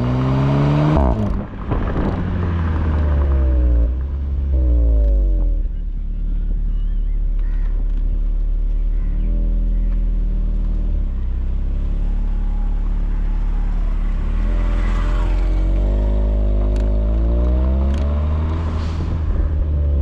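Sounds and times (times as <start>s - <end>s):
car engine revving at exhaust: 0.0s - 6.7s, 7.4s - 20.0s.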